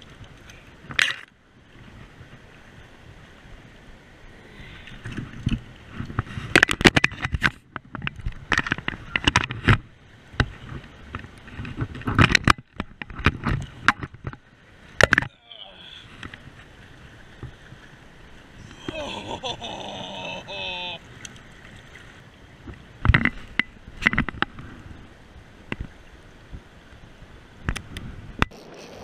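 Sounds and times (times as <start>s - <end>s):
river water splashing: 0.0s - 29.0s.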